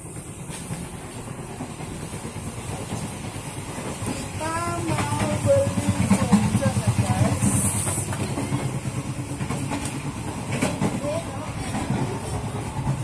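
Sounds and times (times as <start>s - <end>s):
hiss: 0.0s - 10.5s
wheels rumbling on rails: 0.0s - 13.0s.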